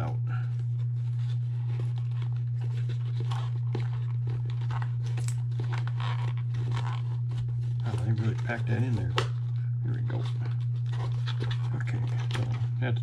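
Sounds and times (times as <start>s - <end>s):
steady low hum: 0.0s - 13.0s
cardboard packaging rustling: 0.6s - 12.8s.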